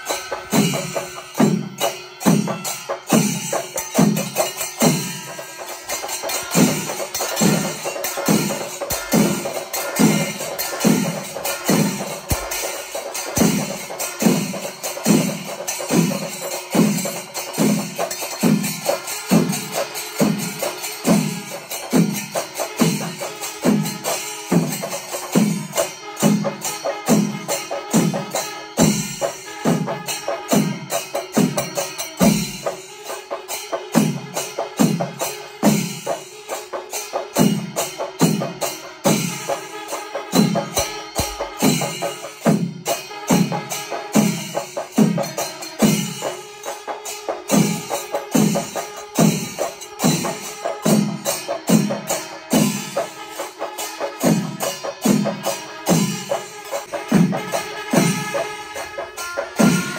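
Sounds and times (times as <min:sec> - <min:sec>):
cymbal clashes: 0:00.0 - 0:59.9
drums beating steady rhythm: 0:00.0 - 0:59.9.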